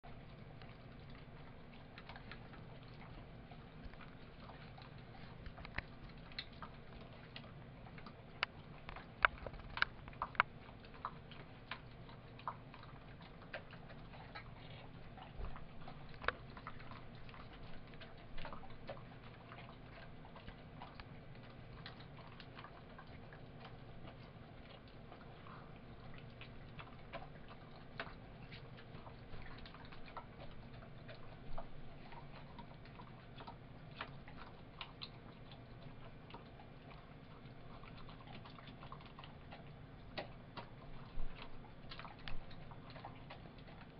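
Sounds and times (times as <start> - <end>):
dog eating from metal bowl: 0.1 - 43.9.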